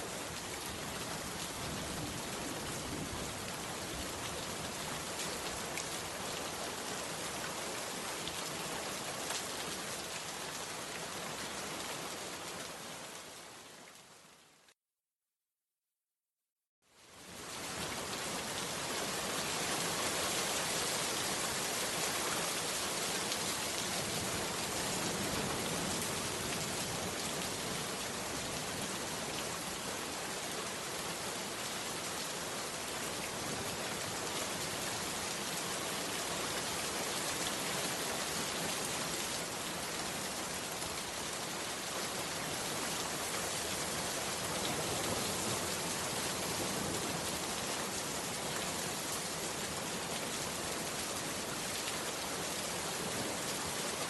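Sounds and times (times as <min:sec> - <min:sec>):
heavy rain: 0:00.0 - 0:14.7, 0:16.9 - 0:54.0.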